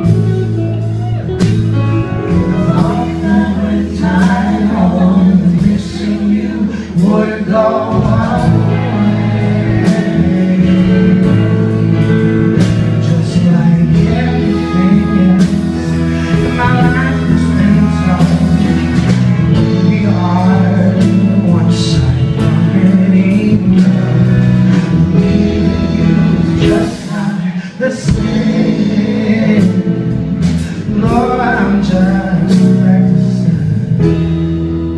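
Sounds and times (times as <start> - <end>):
band and orchestra playing: 0.0 - 34.9
low bass line: 0.0 - 34.9
singers singing together: 2.5 - 33.9.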